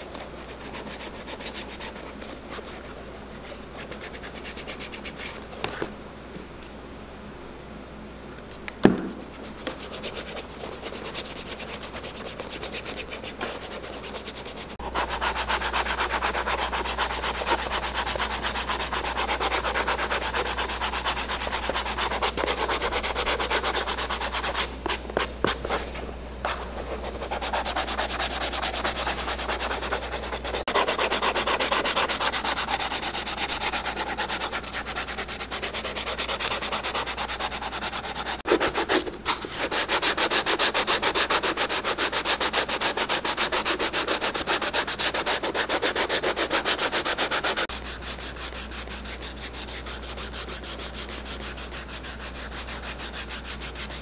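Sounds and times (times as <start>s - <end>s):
sandpaper scrubbing leather: 0.0s - 5.4s, 9.6s - 25.0s, 26.6s - 54.0s.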